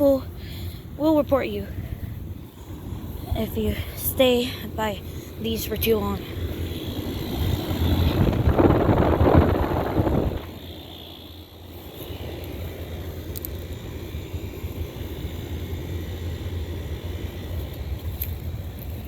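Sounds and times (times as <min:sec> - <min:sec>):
air conditioner unit humming: 0:00.0 - 0:19.0
fan air rushing: 0:00.0 - 0:19.0.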